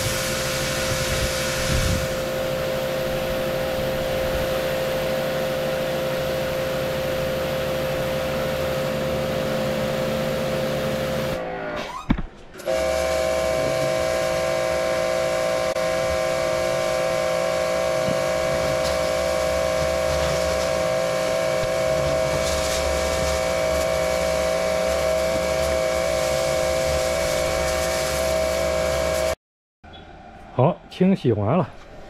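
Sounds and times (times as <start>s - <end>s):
water jet hissing: 0.0s - 11.4s, 12.7s - 29.4s
pressure washer pump whining: 0.0s - 12.0s, 12.6s - 29.4s.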